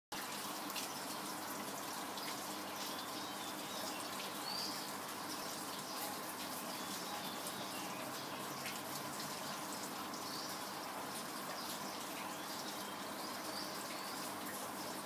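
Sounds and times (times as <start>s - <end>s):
water trickling and dripping: 0.1s - 15.0s.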